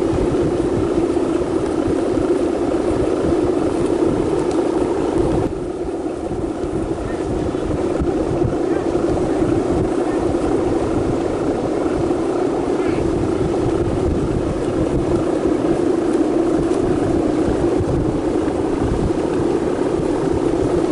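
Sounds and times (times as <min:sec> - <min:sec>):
steady motor drone: 0:00.0 - 0:20.9
wind buffeting microphone: 0:00.0 - 0:20.9.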